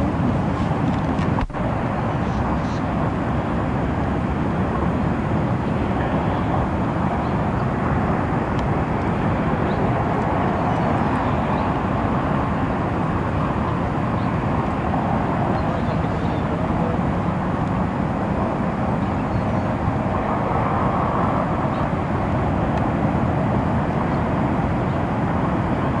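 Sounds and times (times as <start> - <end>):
low rushing noise: 0.0 - 26.0.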